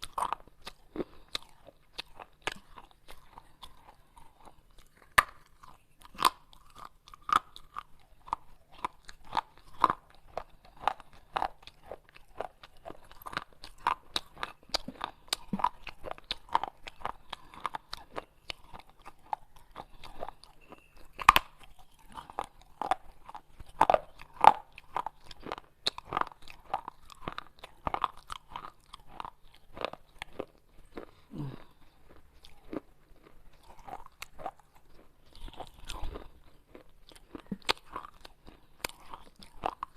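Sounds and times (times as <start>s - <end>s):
baked clay being chewed: 0.0s - 39.9s.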